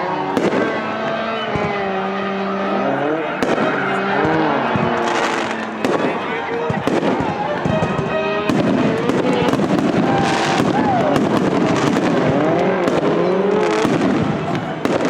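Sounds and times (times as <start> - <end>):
crowd voices: 0.0 - 15.0
fireworks cracking: 0.1 - 15.0.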